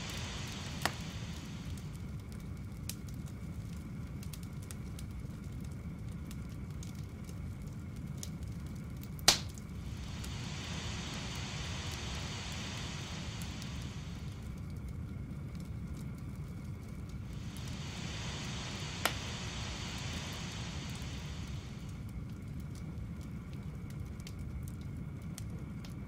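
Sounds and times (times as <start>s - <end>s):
low hum and hiss: 0.0s - 26.0s.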